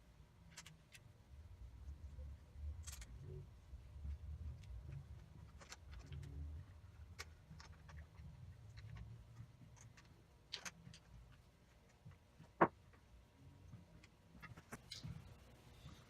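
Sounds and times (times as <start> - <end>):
small parts clicking and tapping: 0.3 - 1.2, 2.6 - 3.4, 4.0 - 16.0.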